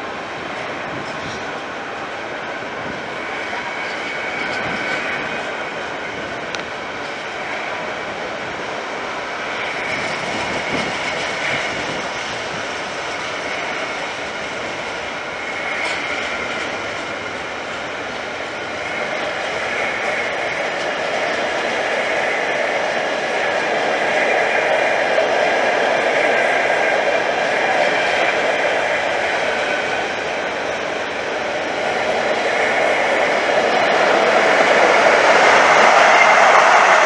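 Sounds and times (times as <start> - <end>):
train rolling past: 0.0 - 37.0.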